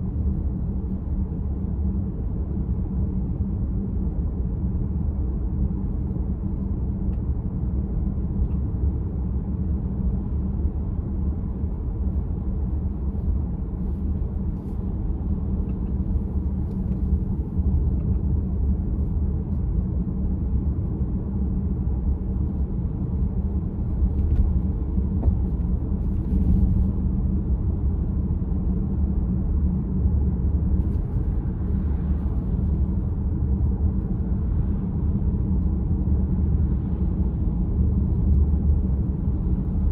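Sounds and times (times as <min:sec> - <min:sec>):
road and tyre rumble in car cabin: 0:00.0 - 0:39.9.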